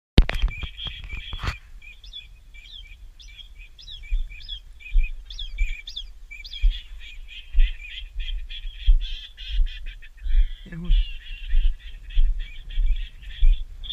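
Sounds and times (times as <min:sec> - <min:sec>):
bird chirping: 0:00.2 - 0:13.9.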